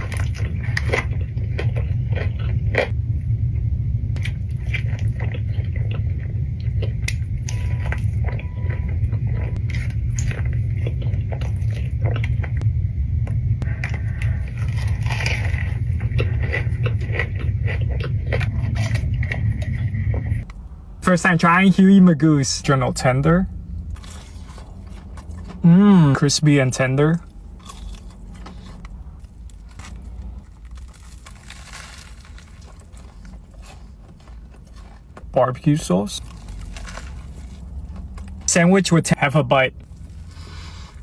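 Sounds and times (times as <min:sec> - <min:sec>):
crunchy chewing: 0:00.0 - 0:03.0, 0:04.2 - 0:12.6, 0:13.6 - 0:21.0, 0:23.4 - 0:38.5, 0:39.8 - 0:41.0
low rumble: 0:00.0 - 0:38.5, 0:39.7 - 0:41.0.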